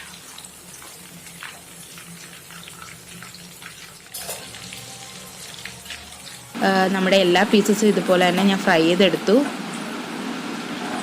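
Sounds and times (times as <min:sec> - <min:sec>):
chicken deep-frying in hot oil: 0:00.0 - 0:11.0.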